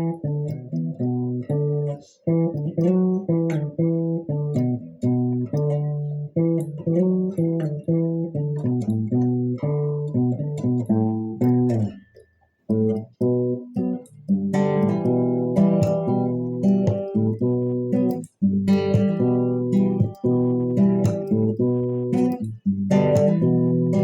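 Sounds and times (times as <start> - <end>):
picked guitar notes: 0.0 - 24.0.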